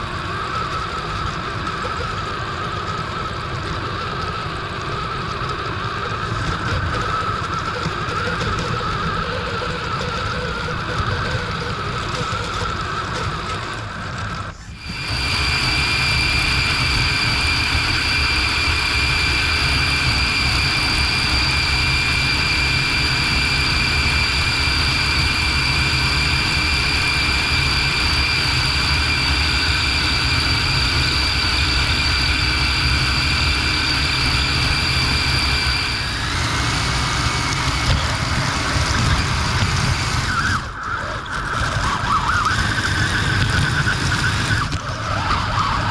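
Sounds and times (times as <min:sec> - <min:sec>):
toy car electric motor whine: 0:00.0 - 0:45.9.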